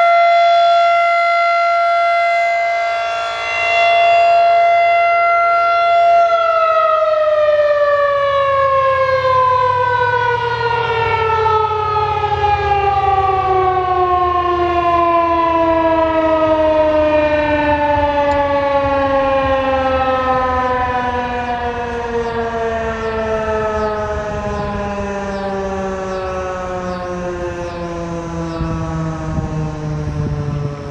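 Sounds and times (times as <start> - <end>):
warning siren winding down: 0.0 - 30.9.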